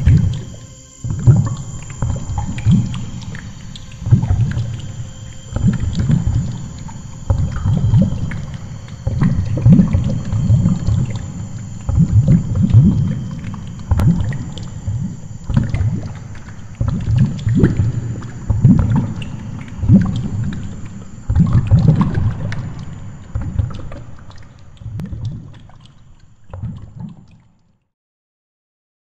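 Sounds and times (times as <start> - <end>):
underwater water surging: 0.0 - 27.4.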